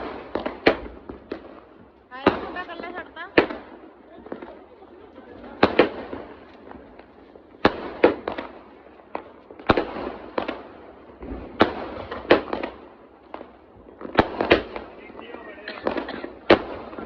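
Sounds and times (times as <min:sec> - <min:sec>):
firework bangs: 0:00.0 - 0:17.0
firework fizzing: 0:00.0 - 0:17.0.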